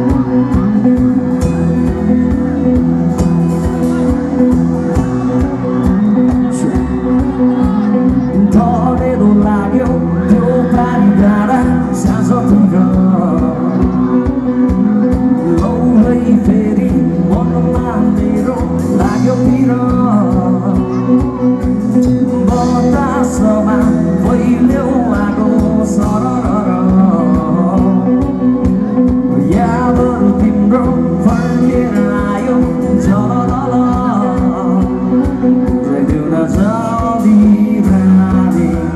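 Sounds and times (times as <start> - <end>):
live band playing: 0.0 - 38.9
man singing: 0.0 - 38.9.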